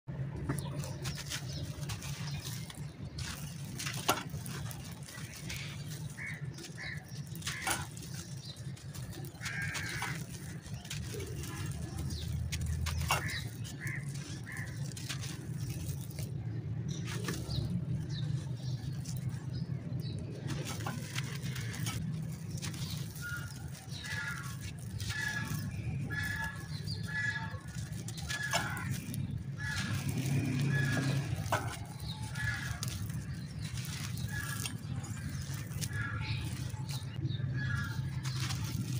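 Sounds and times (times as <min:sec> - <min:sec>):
birds chirping: 0:00.1 - 0:38.9
dry clay crunching and crumbling: 0:00.1 - 0:38.9
grit pattering down: 0:00.3 - 0:38.9.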